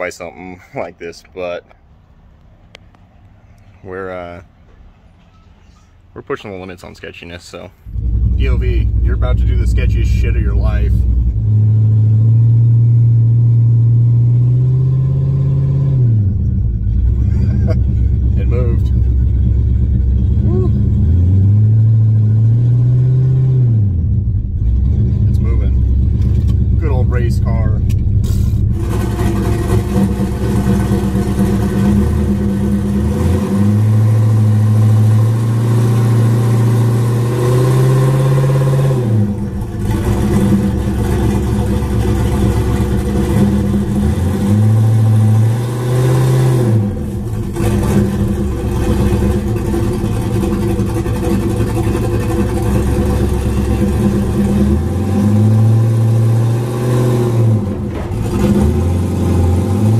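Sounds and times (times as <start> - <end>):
car engine revving under load: 7.7 - 59.9.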